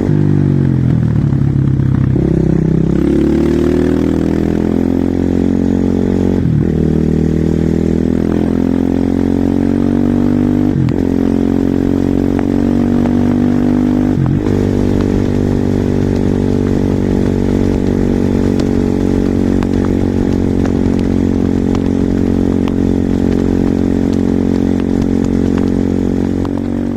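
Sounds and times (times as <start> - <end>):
motorcycle engine accelerating: 0.0 - 26.9.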